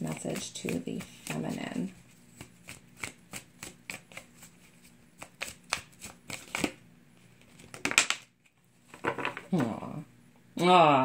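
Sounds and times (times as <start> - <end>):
cards being shuffled: 0.0 - 9.7.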